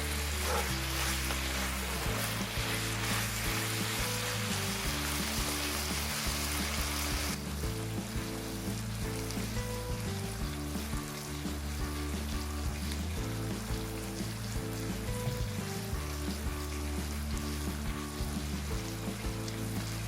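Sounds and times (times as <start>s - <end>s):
background music melody: 0.0s - 20.0s
chicken wings sizzling in pan: 0.0s - 20.0s.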